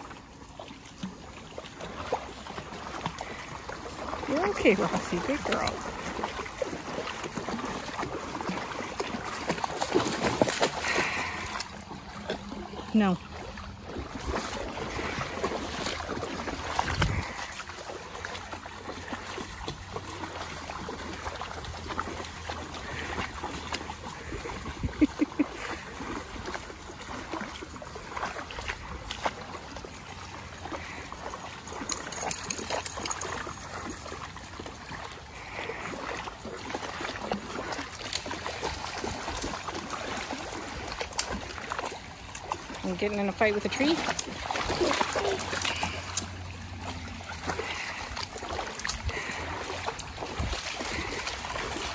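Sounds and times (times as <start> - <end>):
creek trickling over rocks: 0.0 - 51.9
dogs splashing through water: 0.0 - 51.9.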